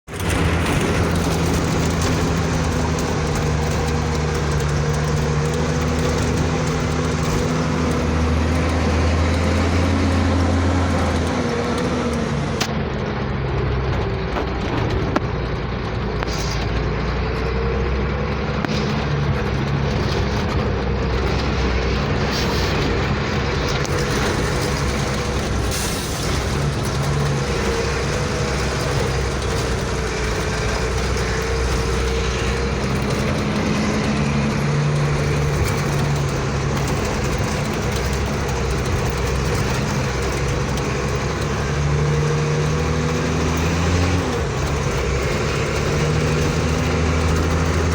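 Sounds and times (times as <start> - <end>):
road noise: 0.0 - 47.9
truck engine running: 0.0 - 47.9.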